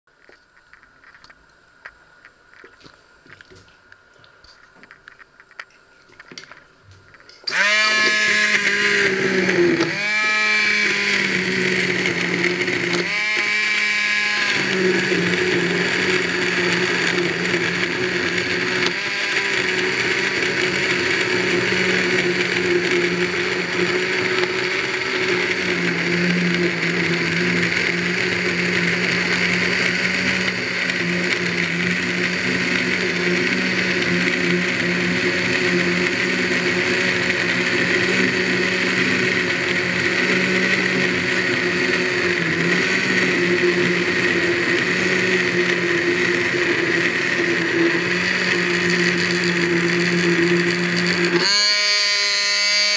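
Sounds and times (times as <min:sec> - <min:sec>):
immersion blender motor: 0:07.4 - 0:52.9.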